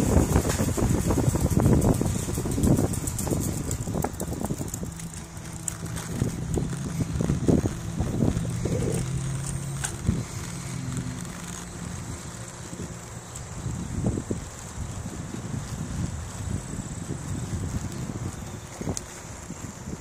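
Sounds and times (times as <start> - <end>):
bicycle tyres rumbling: 0.0 - 20.0
steady low hum: 0.0 - 20.0
wind buffeting microphone: 0.0 - 20.0.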